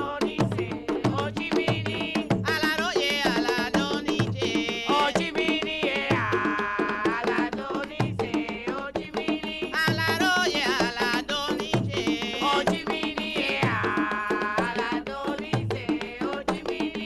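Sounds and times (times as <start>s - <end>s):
hand drums and percussion: 0.0s - 17.0s
women singing: 0.0s - 17.0s.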